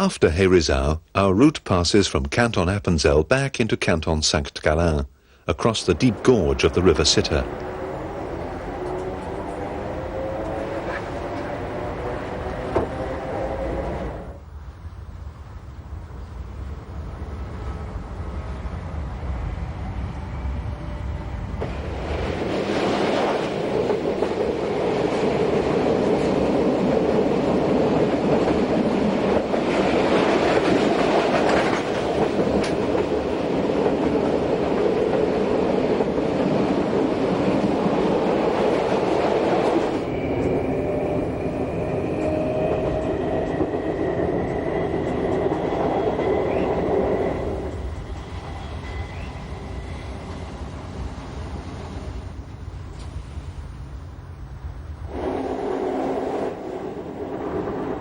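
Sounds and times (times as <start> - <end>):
electric train running on track: 6.5 - 14.5, 15.7 - 58.0.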